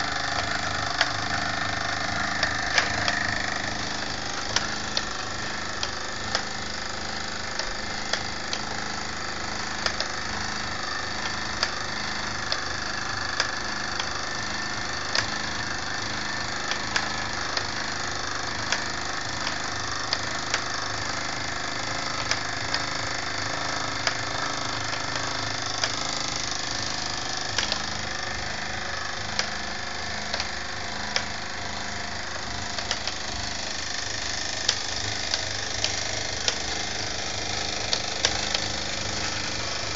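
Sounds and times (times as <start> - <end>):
model workshop machinery whirring: 0.0 - 39.9
sharp mechanical clicks: 0.0 - 39.9.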